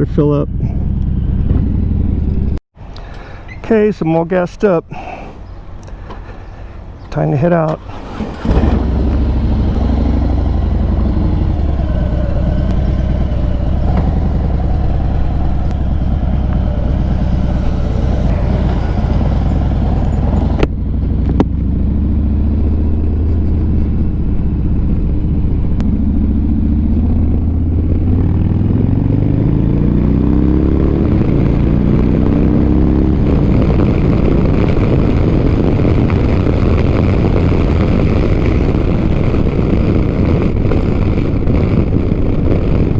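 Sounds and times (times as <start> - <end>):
motorcycle engine accelerating: 0.0 - 2.6, 7.8 - 42.9.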